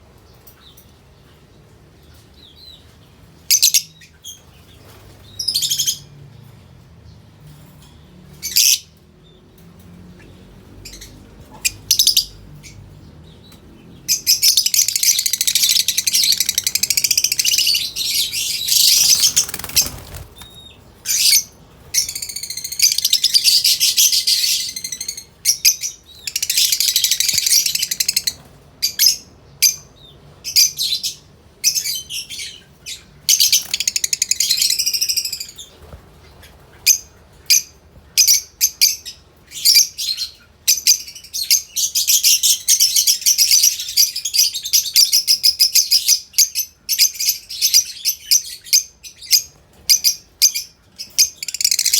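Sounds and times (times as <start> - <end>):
lovebirds chattering: 10.2 - 51.9.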